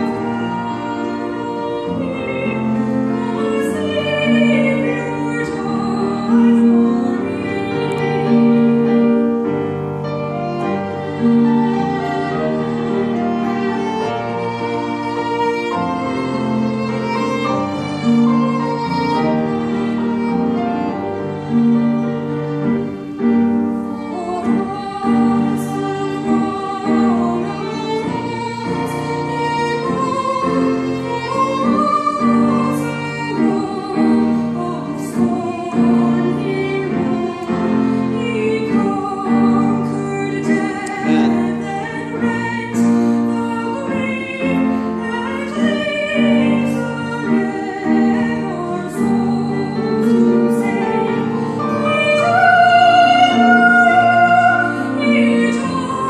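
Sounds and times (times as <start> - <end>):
piano accompaniment: 0.0 - 56.0
violin playing slow melody: 0.0 - 56.0.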